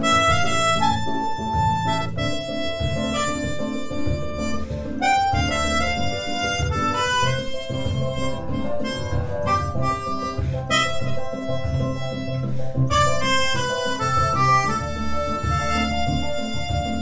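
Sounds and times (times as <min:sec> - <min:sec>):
low rhythmic backing: 0:00.0 - 0:17.0
melodica melody: 0:00.0 - 0:17.0.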